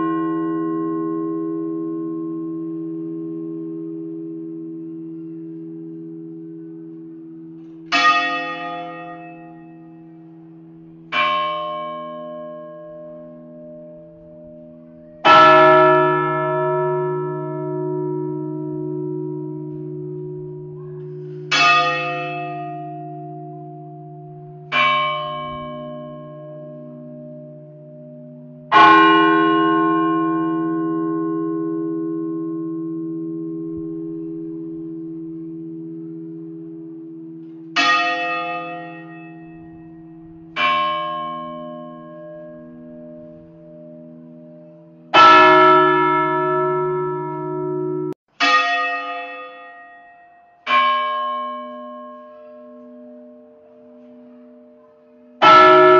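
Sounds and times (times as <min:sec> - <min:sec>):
large bell tolling: 0:00.0 - 0:55.9.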